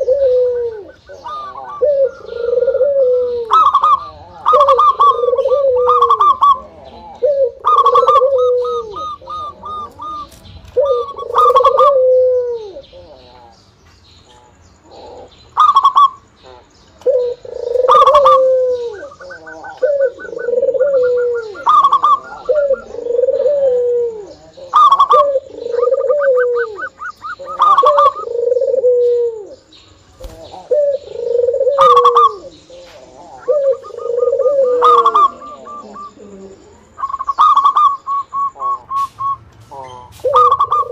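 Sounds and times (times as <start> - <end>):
dove cooing: 0.0 - 13.6, 14.3 - 40.9.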